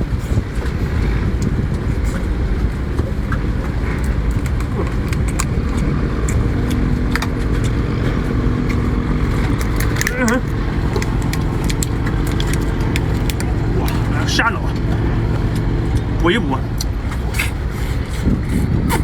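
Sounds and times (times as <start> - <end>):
low hum: 0.0 - 19.0
low motor rumble: 0.0 - 19.0.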